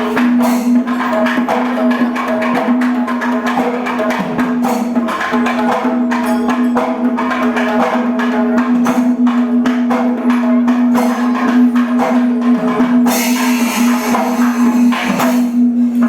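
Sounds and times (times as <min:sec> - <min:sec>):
hand percussion: 0:00.0 - 0:16.0.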